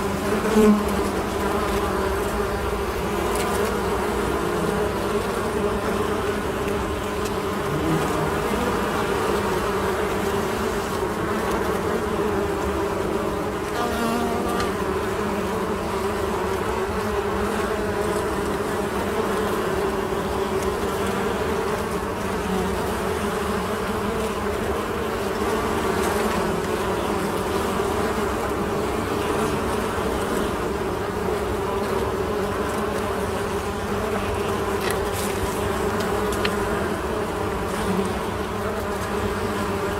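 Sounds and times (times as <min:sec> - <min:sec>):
honey bees buzzing: 0:00.0 - 0:39.9.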